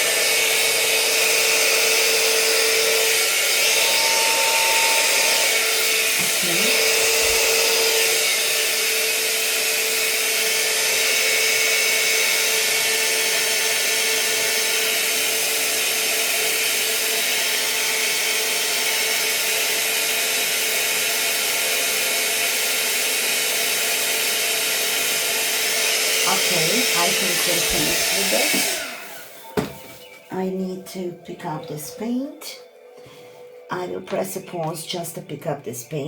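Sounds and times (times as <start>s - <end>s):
hair dryer running: 0.0s - 30.6s.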